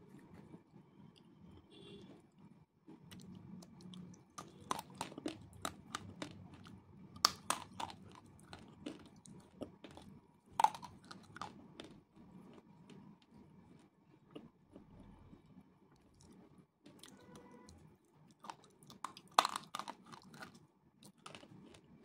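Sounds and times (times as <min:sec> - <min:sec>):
pencil being chewed crunching: 0:03.1 - 0:22.0.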